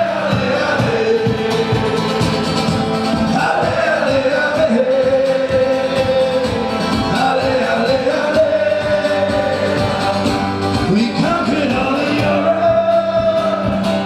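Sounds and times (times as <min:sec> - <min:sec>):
instrumental backing: 0:00.0 - 0:14.0.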